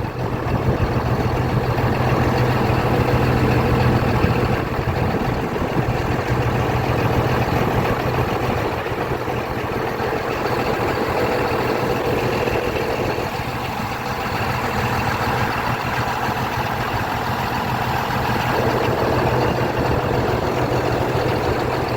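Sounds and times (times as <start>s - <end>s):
bulldozer diesel engine running: 0.0s - 21.9s.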